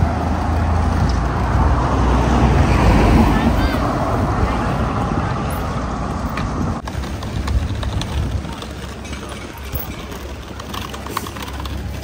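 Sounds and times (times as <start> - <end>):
wind buffeting microphone: 0.8 - 10.5.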